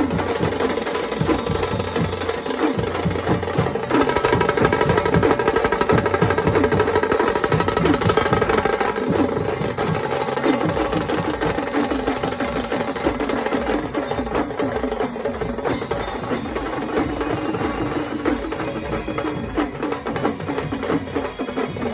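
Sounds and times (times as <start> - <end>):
drum troupe fast stick rhythm: 0.0 - 21.9.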